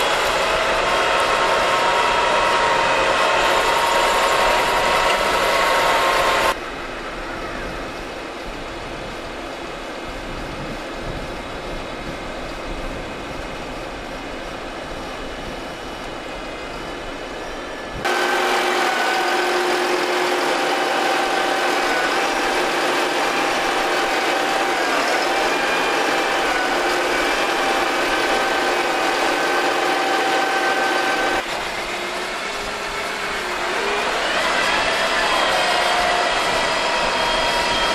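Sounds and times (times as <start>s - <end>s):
tractor engine drone: 0.0s - 9.6s, 17.0s - 37.9s
high hydraulic whine: 0.0s - 37.9s.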